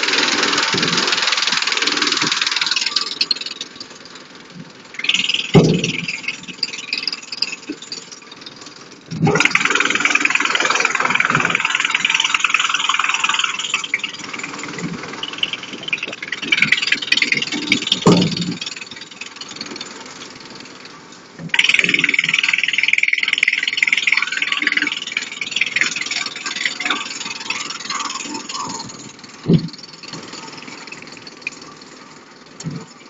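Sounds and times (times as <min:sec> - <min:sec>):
wood chipper chipping branches: 0:00.0 - 0:33.0.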